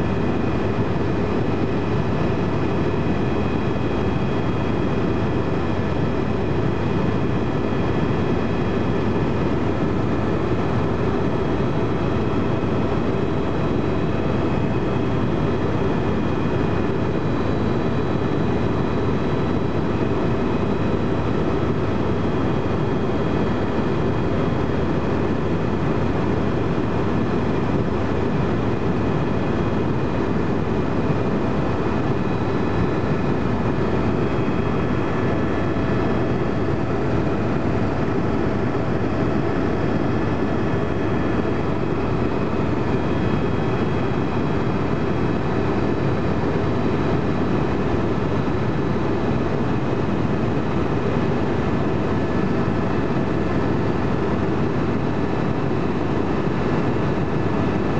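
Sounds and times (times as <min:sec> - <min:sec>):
helicopter rotor and engine rumble: 0:00.0 - 0:57.9
high turbine whine: 0:00.0 - 0:57.9.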